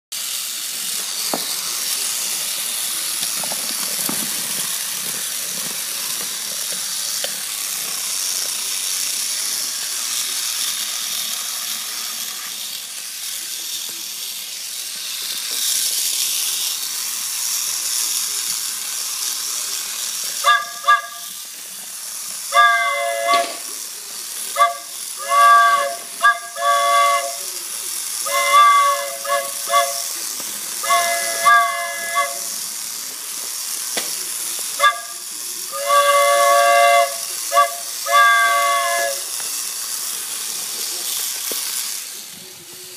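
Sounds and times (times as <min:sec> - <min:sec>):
toy train steam hiss: 0:00.1 - 0:42.9.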